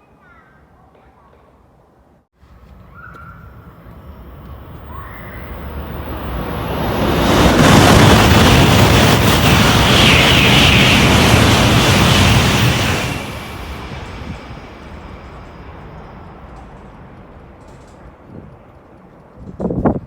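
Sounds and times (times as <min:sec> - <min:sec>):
high-speed train passing: 0:02.4 - 0:20.0.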